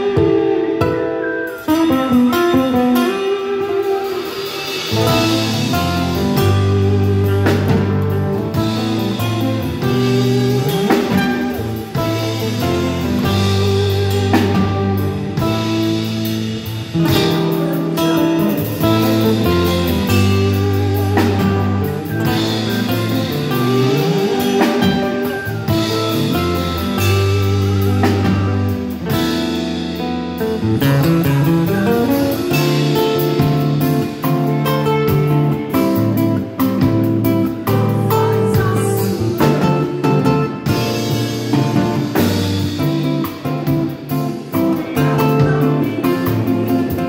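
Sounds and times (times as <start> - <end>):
nylon-string guitar melody: 0.0 - 47.0
low bass notes: 3.2 - 47.0.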